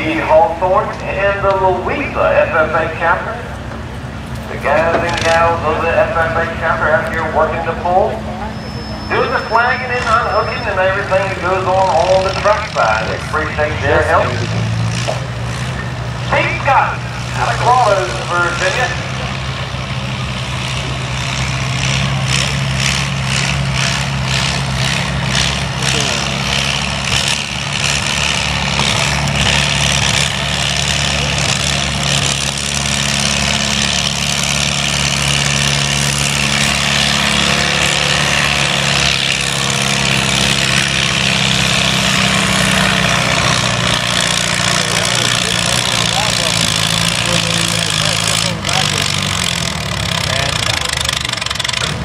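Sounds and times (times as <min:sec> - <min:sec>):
heavy engine running: 0:00.0 - 0:52.0.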